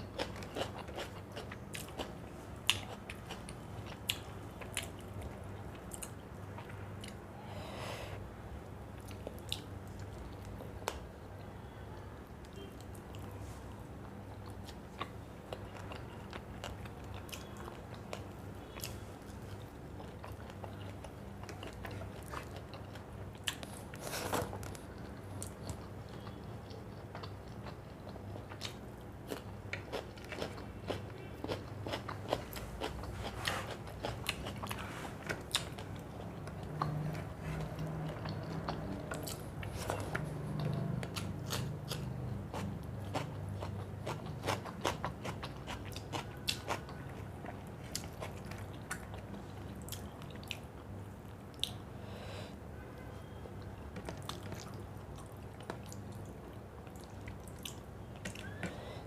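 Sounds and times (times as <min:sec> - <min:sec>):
person chewing crunchy food: 0:00.1 - 0:07.2, 0:14.0 - 0:50.8, 0:54.0 - 0:58.8.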